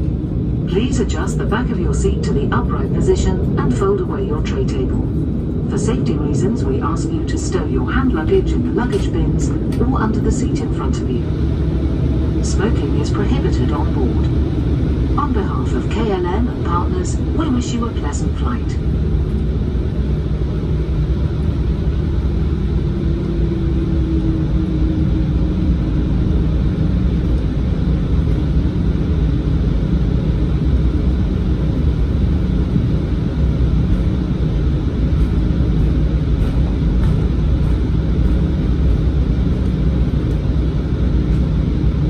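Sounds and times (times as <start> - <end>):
jet cabin engine rumble: 0.0 - 42.0.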